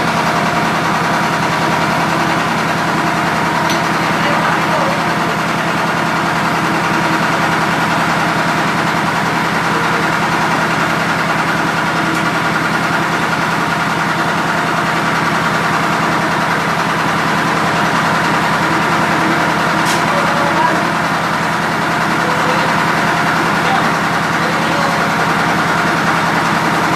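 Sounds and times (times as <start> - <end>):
large diesel engine idling: 0.0 - 26.9.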